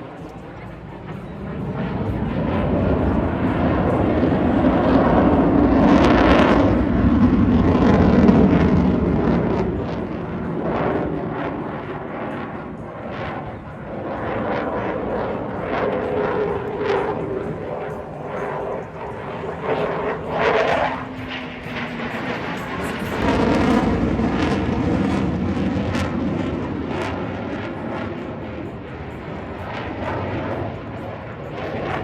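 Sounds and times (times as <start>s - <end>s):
jet aircraft flying past: 0.0s - 32.0s.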